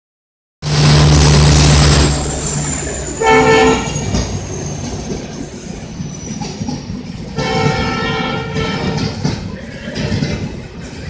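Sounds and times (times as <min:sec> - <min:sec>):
wheels clattering on rails: 0:00.7 - 0:11.0.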